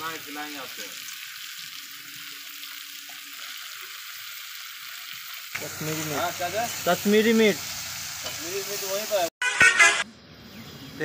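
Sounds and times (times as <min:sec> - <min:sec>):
oil sizzling in a pot: 0:00.0 - 0:09.3.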